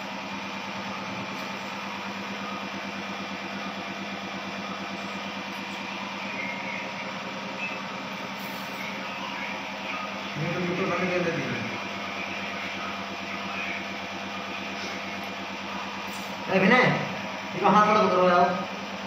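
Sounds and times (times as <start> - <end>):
suction machine humming: 0.0 - 19.0.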